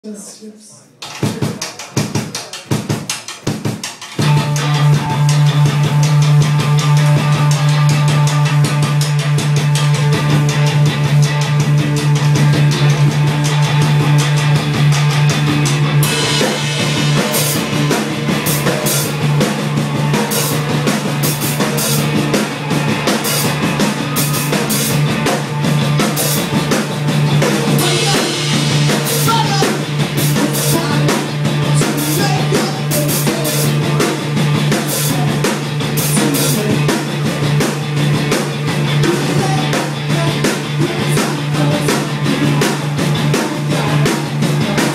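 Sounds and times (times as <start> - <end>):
drum kit beat: 0.1 - 44.9
guitar: 1.0 - 44.9.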